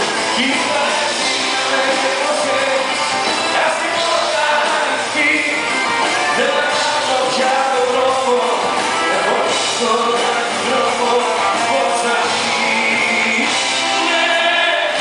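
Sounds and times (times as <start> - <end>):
live band playing: 0.0 - 15.0
man singing amplified: 0.0 - 15.0.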